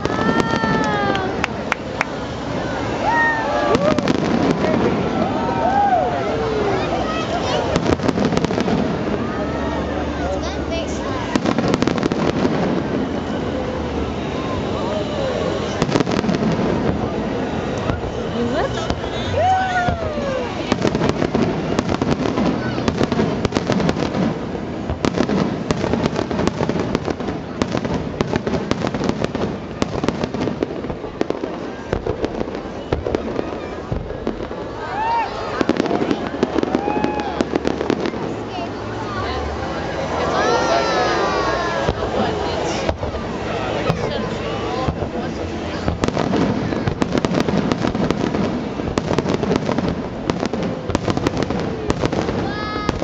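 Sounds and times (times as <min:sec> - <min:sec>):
fireworks pops and crackles: 0:00.0 - 0:02.5, 0:03.1 - 0:05.9, 0:07.3 - 0:09.3, 0:10.8 - 0:13.7, 0:15.6 - 0:38.7, 0:41.8 - 0:53.0.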